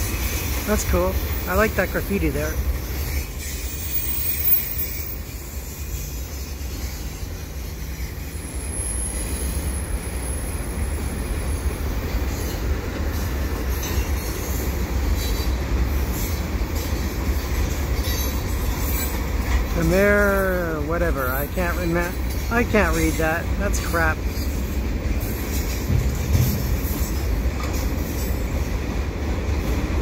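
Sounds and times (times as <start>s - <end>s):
train wheels rumbling on rail: 0.0s - 30.0s
wheels clicking over rails: 0.0s - 30.0s
high wheel squeal: 1.2s - 25.8s.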